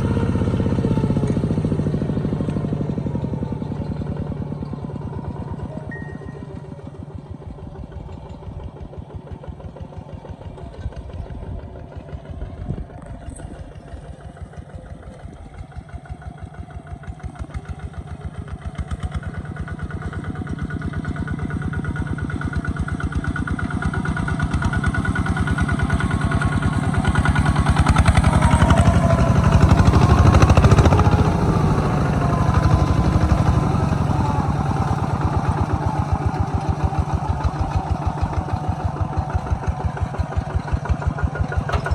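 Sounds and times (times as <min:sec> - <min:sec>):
diesel tractor engine chugging: 0:00.0 - 0:41.9.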